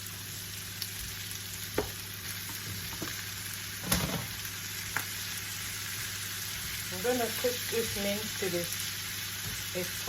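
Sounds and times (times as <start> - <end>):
meat sizzling in a pan: 0.0 - 10.0.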